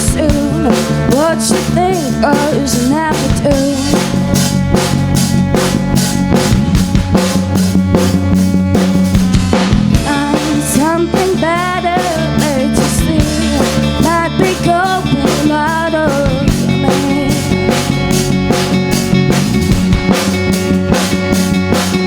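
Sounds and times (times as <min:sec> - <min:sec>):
drum kit beat: 0:00.0 - 0:22.0
indie rock band playing: 0:00.0 - 0:22.0
melodic lead guitar with pitch bends: 0:00.0 - 0:22.0.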